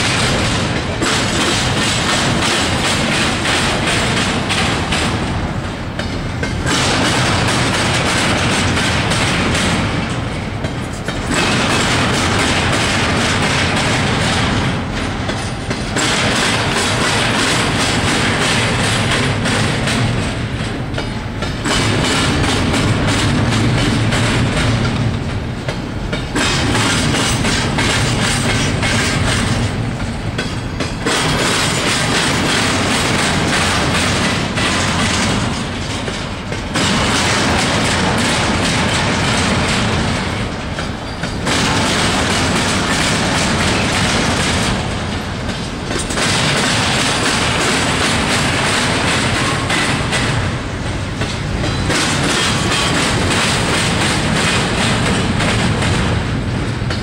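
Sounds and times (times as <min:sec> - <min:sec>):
freight train wheels clattering on rails: 0:00.0 - 0:57.0.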